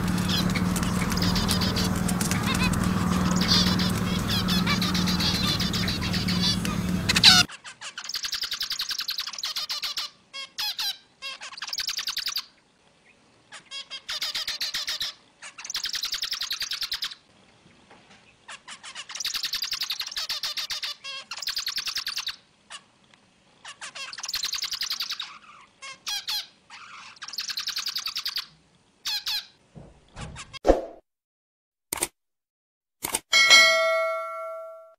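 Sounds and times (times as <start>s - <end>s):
finch song: 0.0s - 22.5s, 23.6s - 29.6s, 33.4s - 34.9s.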